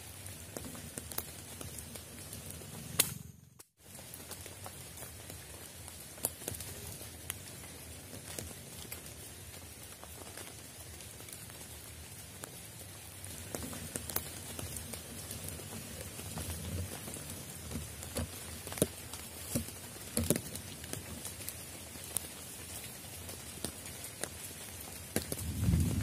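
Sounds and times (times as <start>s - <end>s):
raindrops pattering on leaves: 0.0s - 26.0s.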